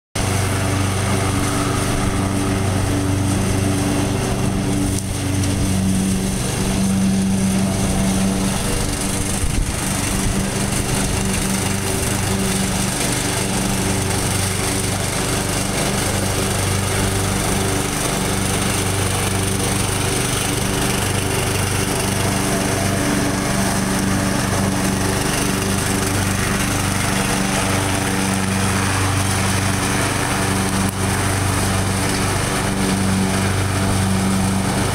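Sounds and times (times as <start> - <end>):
tractor engine running: 0.2 - 34.9.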